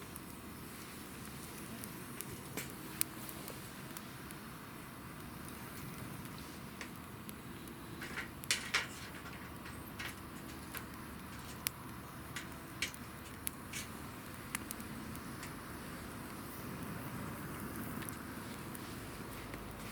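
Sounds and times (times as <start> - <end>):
hiss of flame: 0.0 - 19.9
wood fire crackling: 0.0 - 19.9.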